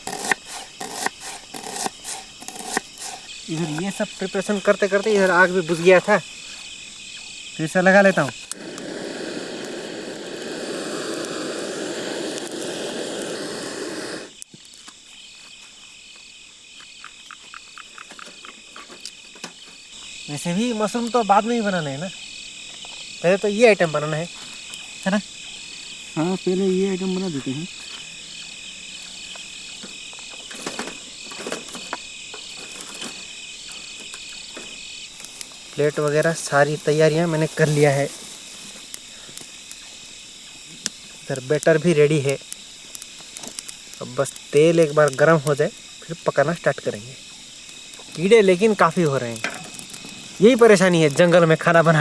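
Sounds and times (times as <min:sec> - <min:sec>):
campfire rushing roar: 0:00.0 - 0:14.4, 0:20.4 - 0:52.0
crickets chirping: 0:00.0 - 0:52.0.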